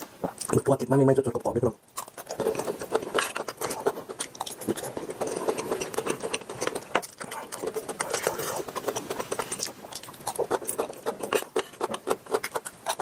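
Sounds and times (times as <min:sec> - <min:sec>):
small irregular clicks: 0:01.4 - 0:13.0
wet chewing and biting: 0:01.9 - 0:13.0.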